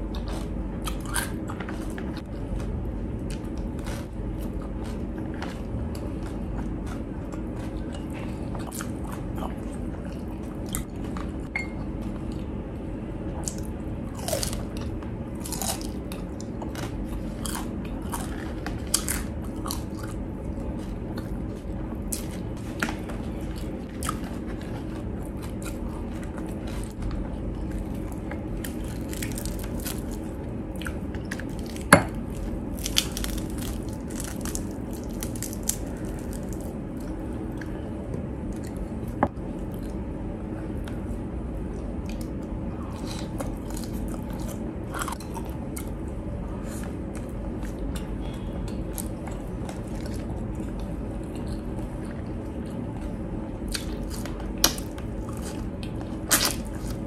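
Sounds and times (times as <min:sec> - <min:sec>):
crunching and chewing crispy food: 0:00.0 - 0:12.6, 0:13.2 - 0:57.0
steady low hum: 0:00.0 - 0:57.0.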